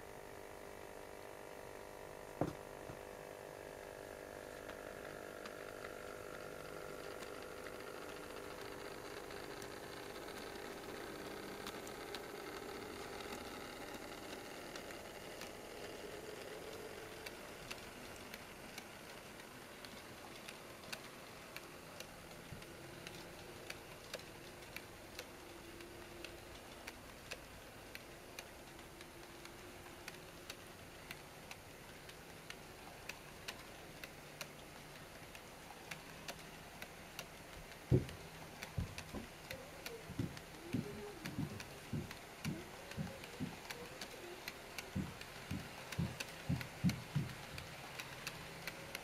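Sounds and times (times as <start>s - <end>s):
faint steady hum: 0.0s - 49.0s
model train wheels clicking over rail joints: 0.0s - 49.0s.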